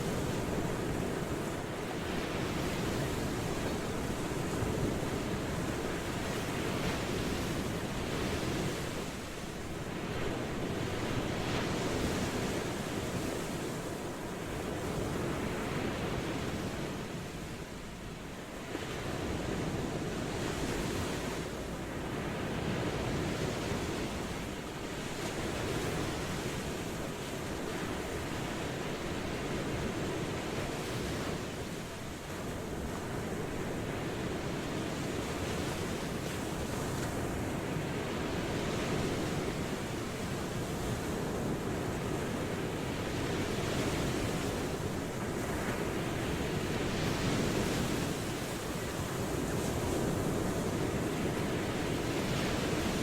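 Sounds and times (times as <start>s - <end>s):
ocean surf washing onto shore: 0.0s - 53.0s.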